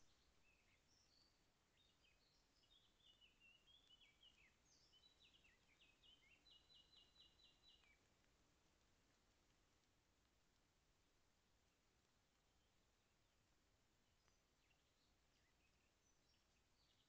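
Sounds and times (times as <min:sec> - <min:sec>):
songbird song: 0:00.0 - 0:17.0.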